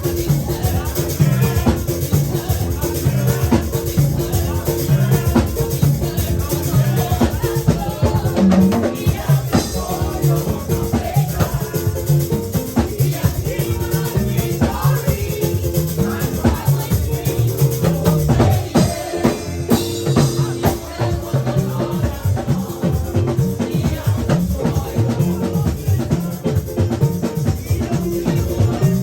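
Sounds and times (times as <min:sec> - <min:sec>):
drums: 0:00.0 - 0:29.0
shaken percussion: 0:00.0 - 0:29.0.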